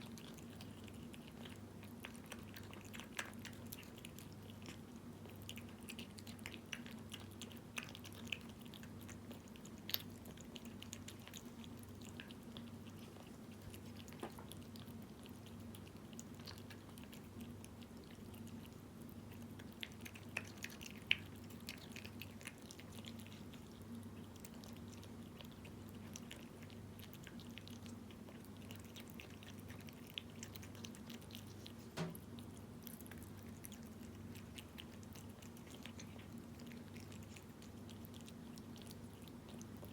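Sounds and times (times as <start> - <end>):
cat chewing wet food: 0.0 - 39.9.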